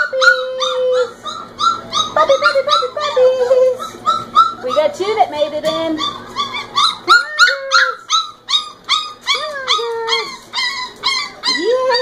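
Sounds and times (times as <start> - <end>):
puppies whining and yelping: 0.0 - 12.0.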